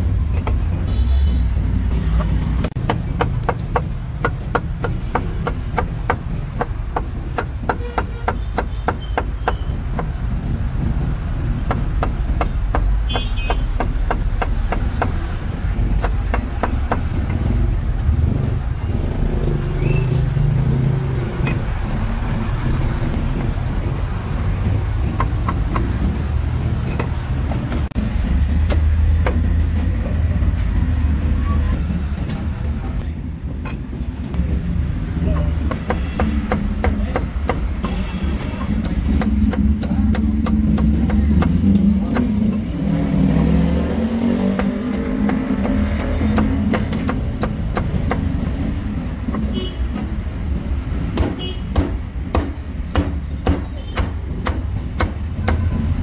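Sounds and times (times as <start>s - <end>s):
low traffic rumble: 0.0s - 56.0s.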